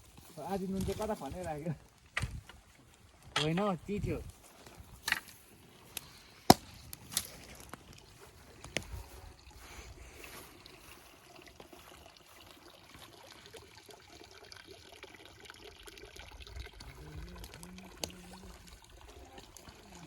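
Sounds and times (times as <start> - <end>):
water trickling: 0.0 - 6.3, 7.0 - 20.0.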